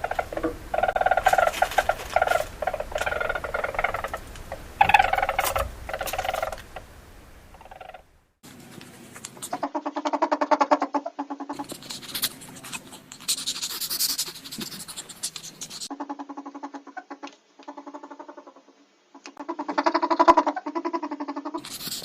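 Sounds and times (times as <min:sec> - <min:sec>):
animal chattering calls: 0:00.0 - 0:08.1, 0:09.4 - 0:22.0.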